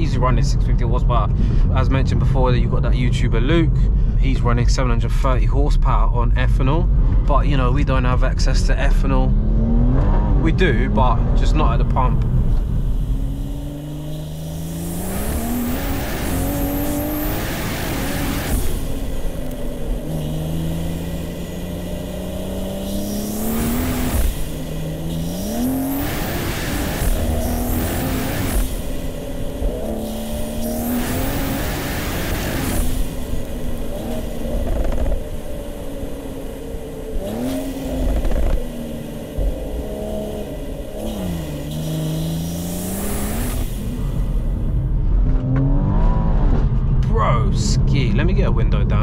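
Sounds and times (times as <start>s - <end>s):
turbocharged car engine revving: 6.5s - 49.0s.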